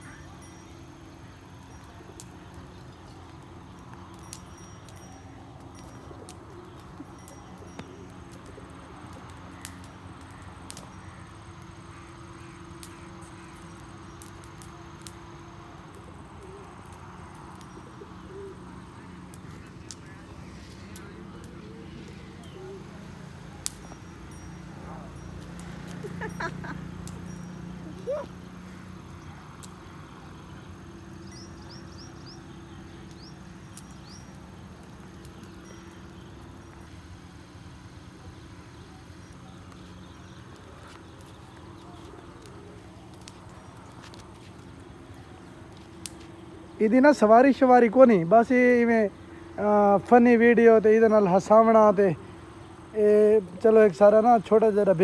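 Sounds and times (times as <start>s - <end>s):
low outdoor hum: 0.0s - 55.0s.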